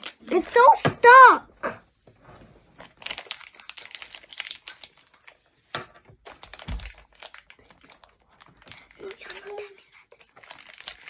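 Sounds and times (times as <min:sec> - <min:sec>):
plastic packaging crinkling: 0:00.0 - 0:01.3, 0:02.3 - 0:11.0.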